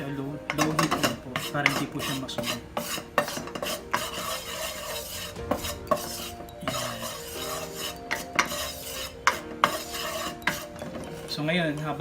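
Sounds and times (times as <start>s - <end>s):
utensil scraping frying pan: 0.4s - 12.0s.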